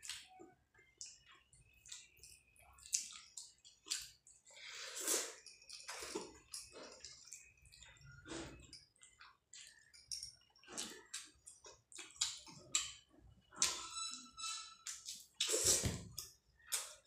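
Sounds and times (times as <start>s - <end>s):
wet squishing of food by hand: 0.0s - 13.8s.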